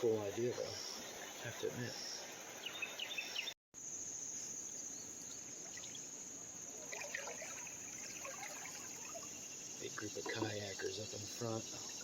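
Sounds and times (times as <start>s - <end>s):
water trickling and splashing: 0.0s - 3.5s, 5.1s - 12.0s
high drone of insects: 0.0s - 12.0s.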